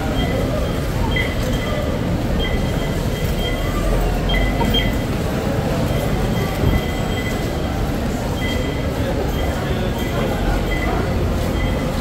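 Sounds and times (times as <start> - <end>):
train rumble: 0.0 - 12.0
wheels squeaking: 0.0 - 12.0.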